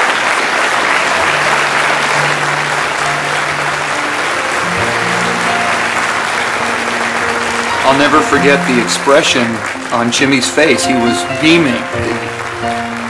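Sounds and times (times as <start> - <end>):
audience applauding: 0.0 - 13.0
soft music with low notes: 1.2 - 13.0.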